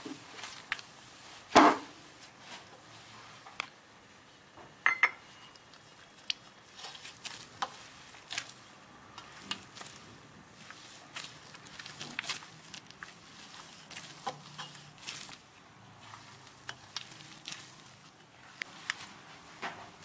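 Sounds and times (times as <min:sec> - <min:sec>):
hands kneading food mixture: 0:00.0 - 0:03.8, 0:05.5 - 0:20.0.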